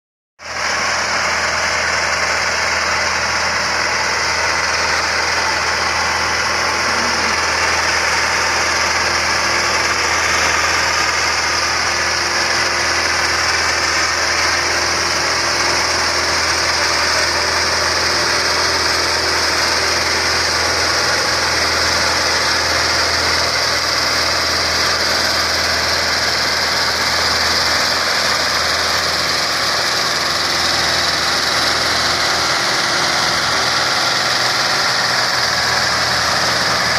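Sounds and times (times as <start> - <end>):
rotary tiller in soil: 0.4 - 36.9
tractor diesel engine running: 0.4 - 36.9.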